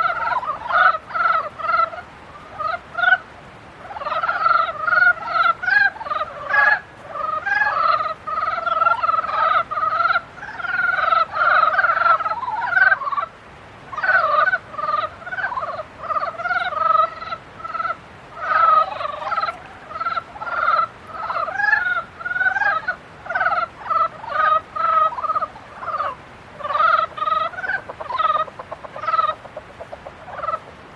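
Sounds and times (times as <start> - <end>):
frogs croaking: 0.0 - 30.9.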